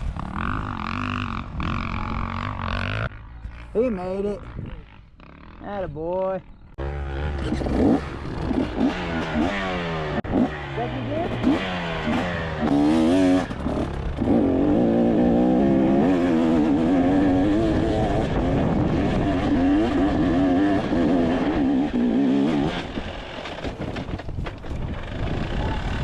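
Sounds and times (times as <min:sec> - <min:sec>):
dirt bike engine revving: 0:00.0 - 0:05.7, 0:06.4 - 0:24.0.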